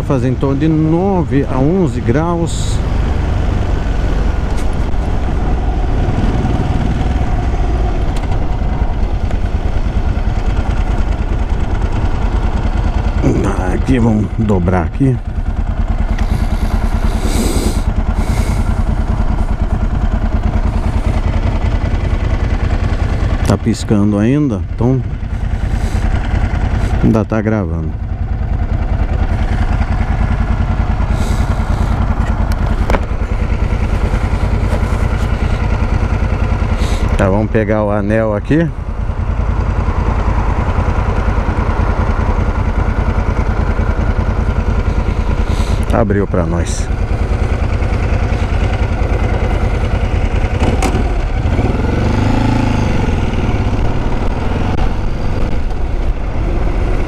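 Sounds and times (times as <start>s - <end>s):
motorcycle engine at low revs: 0.0s - 57.0s.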